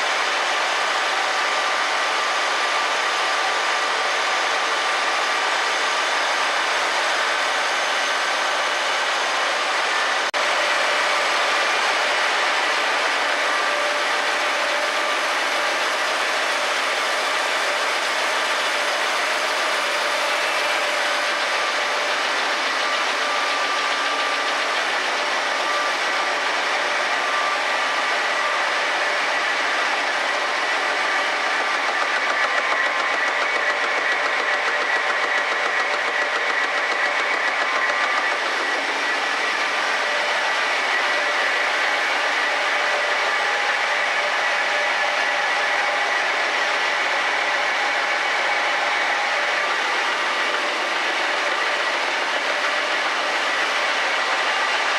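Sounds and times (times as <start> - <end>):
printing press mechanical din: 0.1 - 54.9.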